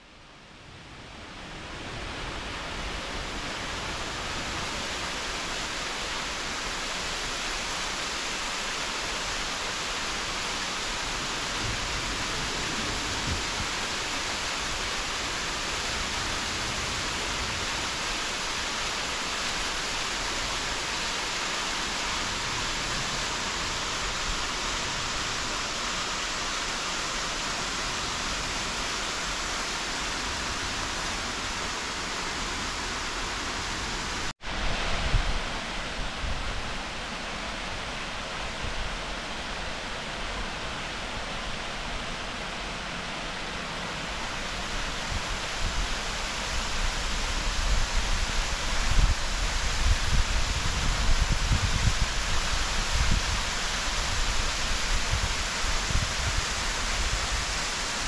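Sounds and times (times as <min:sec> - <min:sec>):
waterfall rushing: 0:01.5 - 0:58.0.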